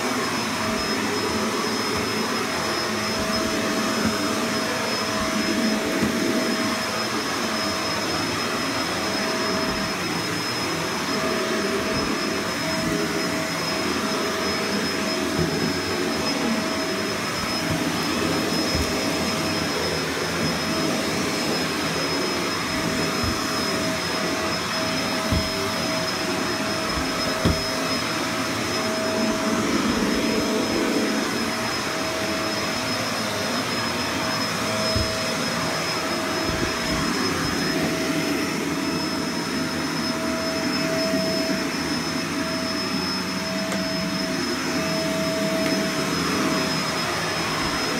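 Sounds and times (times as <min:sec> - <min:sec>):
vacuum cleaner knocking: 0:00.0 - 0:39.0, 0:43.4 - 0:47.9
vacuum cleaner running: 0:00.0 - 0:47.9.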